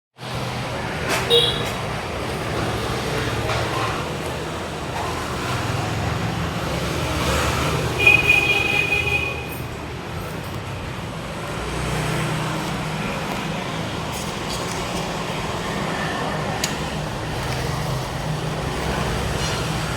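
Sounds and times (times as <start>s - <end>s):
traffic rumble: 0.2s - 19.9s.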